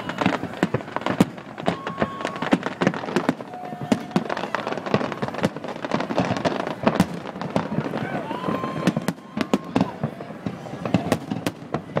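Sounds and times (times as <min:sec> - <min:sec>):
firework whistles: 0:00.0 - 0:11.9
fireworks crackling and popping: 0:00.0 - 0:12.0.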